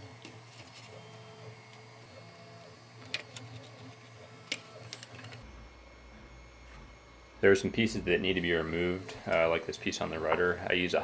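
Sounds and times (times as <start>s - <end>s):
stepper motor whine: 0.0s - 11.0s.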